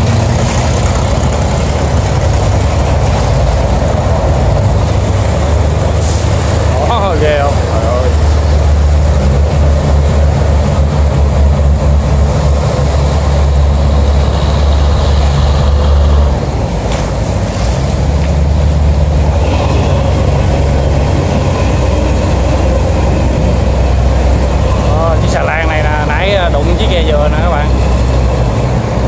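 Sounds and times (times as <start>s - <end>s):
boat diesel engine drone: 0.0s - 29.0s
water rushing: 0.0s - 29.0s
wind: 0.0s - 29.0s.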